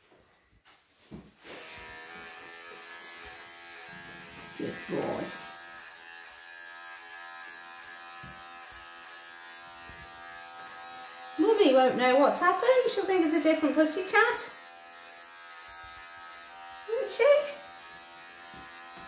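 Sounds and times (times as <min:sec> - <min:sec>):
electric pet clippers humming: 0:01.4 - 0:19.0.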